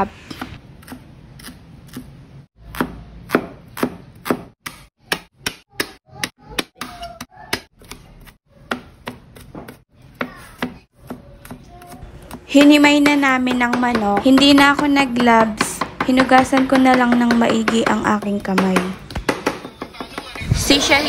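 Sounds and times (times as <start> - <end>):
knife chopping on plastic board: 2.7 - 20.3.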